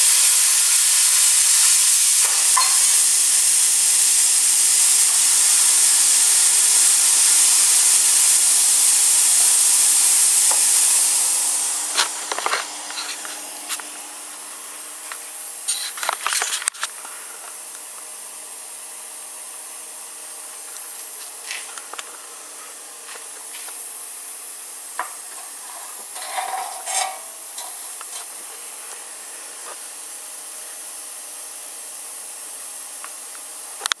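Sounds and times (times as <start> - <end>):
plasma torch cutting steel: 0.0 - 16.9, 20.1 - 34.0.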